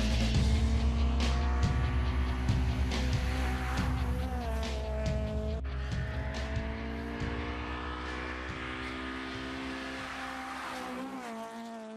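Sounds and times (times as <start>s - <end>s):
car engine running: 0.0s - 11.6s.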